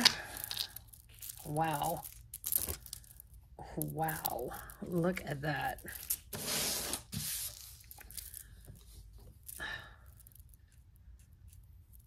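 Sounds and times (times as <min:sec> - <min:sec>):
beaded collar rustling: 0:00.0 - 0:12.0.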